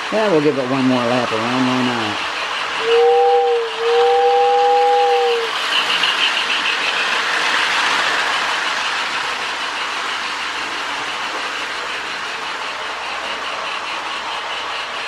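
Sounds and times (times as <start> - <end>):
toy locomotive running on track: 0.0 - 15.0.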